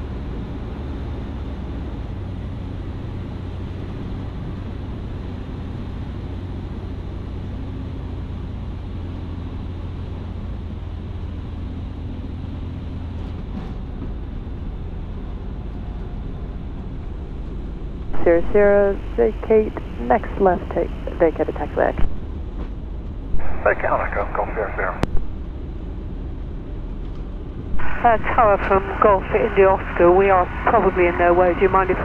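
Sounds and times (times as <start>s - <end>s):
light aircraft engine and propeller: 0.0s - 32.0s.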